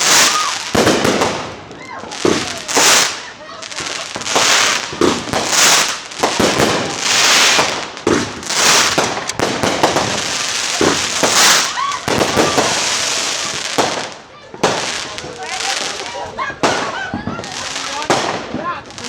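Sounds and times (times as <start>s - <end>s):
fireworks bangs with crackling: 0.0s - 19.0s.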